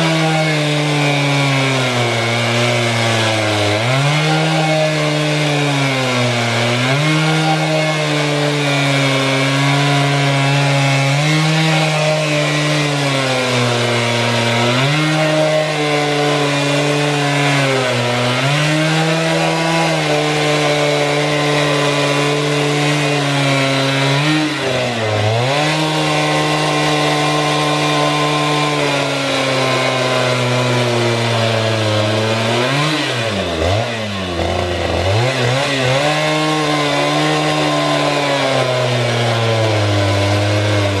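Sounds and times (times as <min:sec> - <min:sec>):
chainsaw cutting log: 0:00.0 - 0:41.0.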